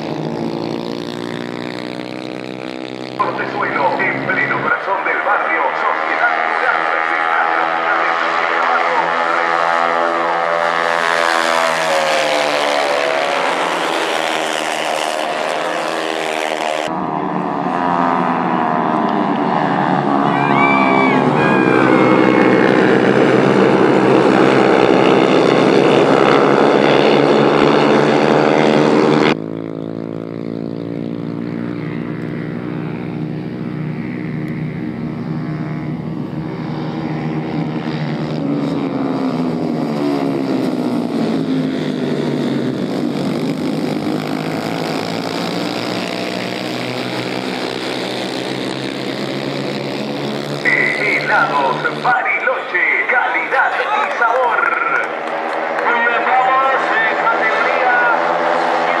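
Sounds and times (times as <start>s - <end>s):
racing motorcycles at high revs: 0.0s - 52.4s, 53.4s - 59.0s.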